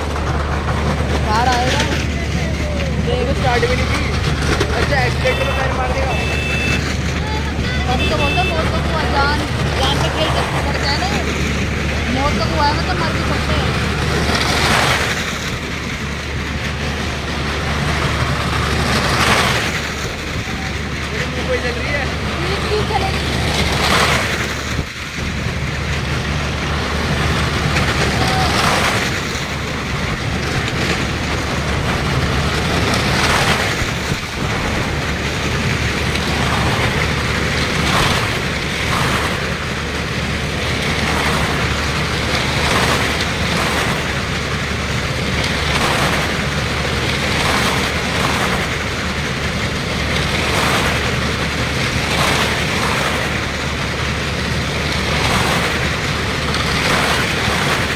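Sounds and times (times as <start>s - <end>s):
vehicle engines racing round: 0.0s - 57.9s.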